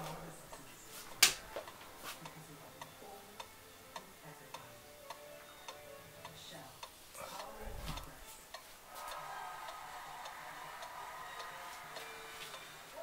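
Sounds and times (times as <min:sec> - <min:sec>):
pendulum clock ticking: 0:01.3 - 0:13.0.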